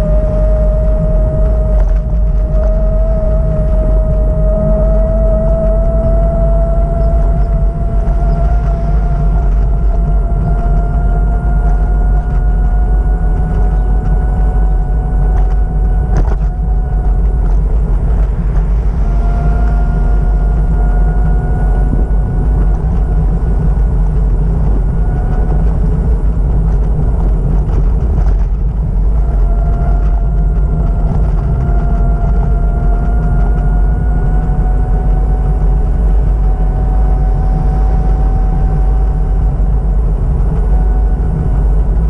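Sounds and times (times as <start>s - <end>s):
faint whining tone: 0.0s - 42.0s
moving vehicle rumble: 0.0s - 42.0s.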